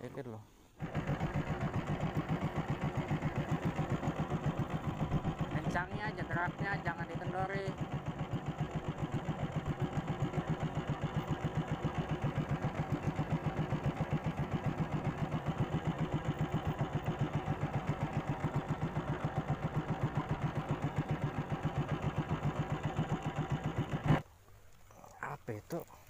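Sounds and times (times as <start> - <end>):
boat motor throbbing: 0.8 - 24.2.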